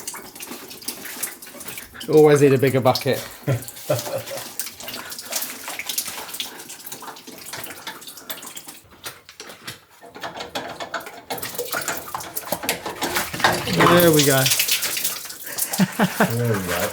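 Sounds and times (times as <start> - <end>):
water pouring into a bucket: 0.0 - 16.9.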